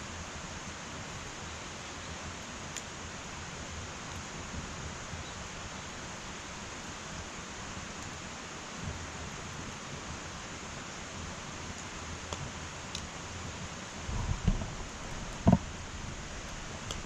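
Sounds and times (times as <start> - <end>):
fire crackle: 0.0 - 17.0
wood fire hissing: 0.0 - 17.0.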